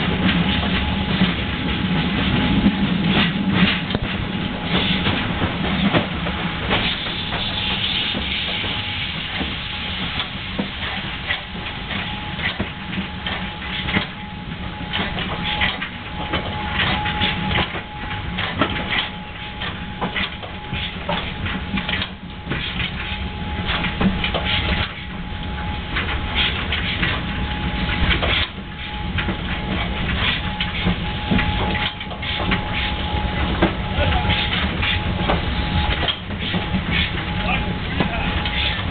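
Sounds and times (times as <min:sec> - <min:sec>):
train rumbling on rails: 0:00.0 - 0:38.9
wheels clicking and clacking: 0:00.0 - 0:38.9.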